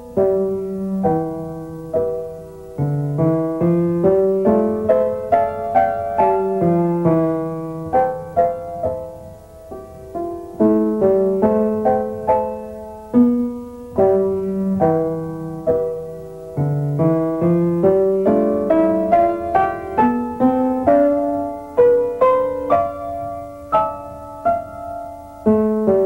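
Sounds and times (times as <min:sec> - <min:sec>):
slow piano melody: 0:00.0 - 0:26.0.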